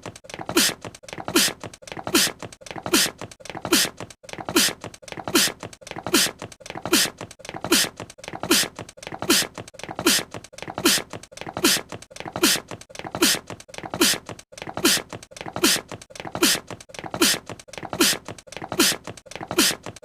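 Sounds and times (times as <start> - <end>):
voiced sneeze: 0.5 - 20.0.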